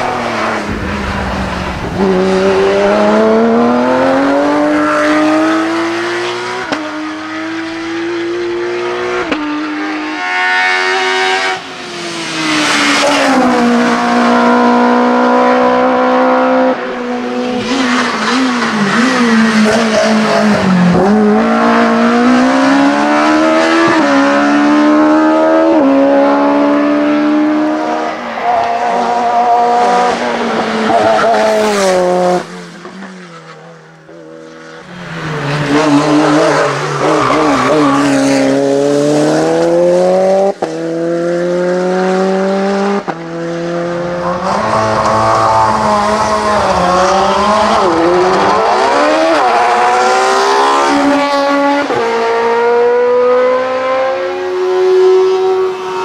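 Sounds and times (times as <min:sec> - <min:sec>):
race car engines at full throttle: 0:00.0 - 0:56.0.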